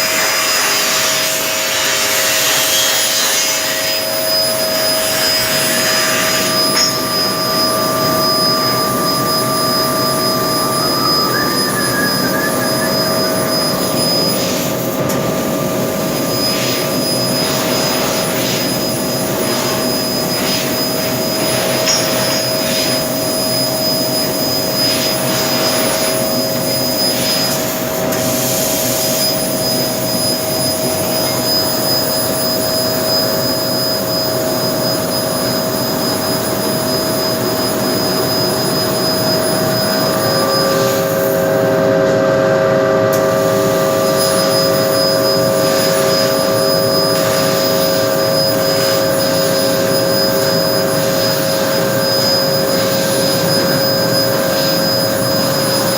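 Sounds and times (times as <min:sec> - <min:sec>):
laser cutter rushing and whining: 0:00.0 - 0:55.9
whining tones: 0:03.9 - 0:27.6, 0:29.2 - 0:42.4, 0:43.1 - 0:55.9.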